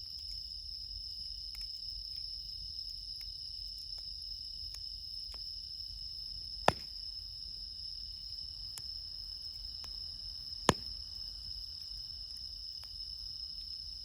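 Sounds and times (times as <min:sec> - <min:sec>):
crickets chirping: 0:00.0 - 0:14.0
campfire wood crackling and popping: 0:01.4 - 0:02.4, 0:03.1 - 0:13.9.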